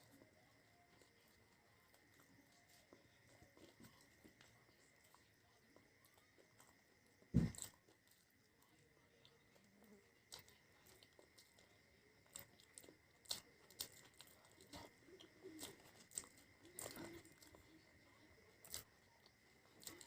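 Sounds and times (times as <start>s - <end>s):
chewing crunchy fried food: 0.0s - 20.0s.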